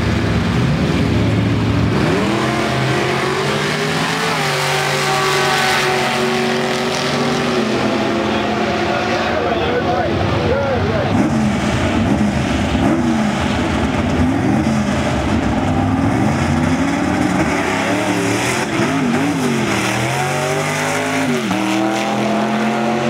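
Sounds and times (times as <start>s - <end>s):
drag car engine revving: 0.0s - 23.0s.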